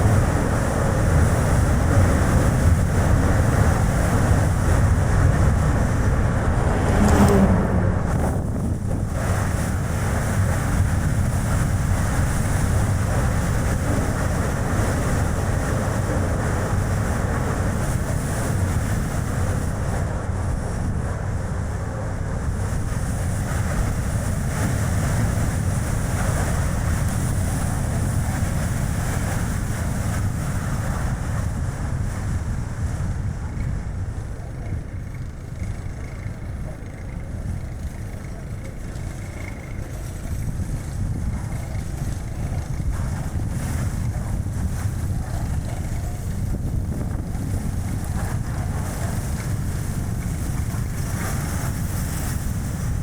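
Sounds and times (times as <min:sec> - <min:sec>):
car road and tyre noise: 0:00.0 - 0:53.0
wind buffeting microphone: 0:00.0 - 0:53.0.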